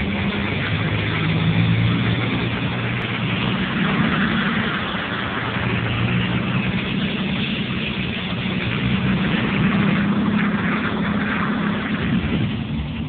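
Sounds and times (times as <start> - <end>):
pickup engine cruising hum: 0.0 - 13.0
tyres rushing through shallow water: 0.0 - 13.0
wind on microphone: 0.0 - 13.0.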